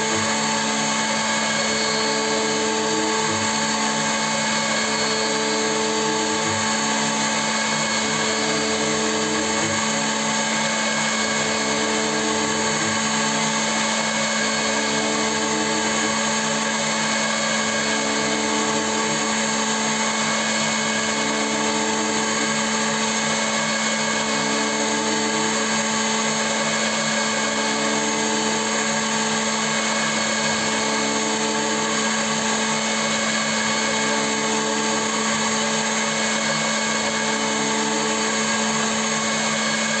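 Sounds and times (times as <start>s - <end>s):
milling machine motor whine: 0.0s - 40.0s.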